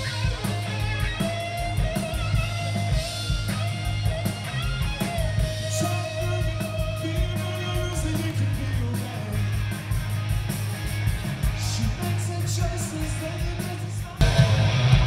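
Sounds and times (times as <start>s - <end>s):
bass guitar: 0.0s - 15.0s
distorted electric guitar: 0.0s - 15.0s
drum beat with cymbals: 0.0s - 15.0s.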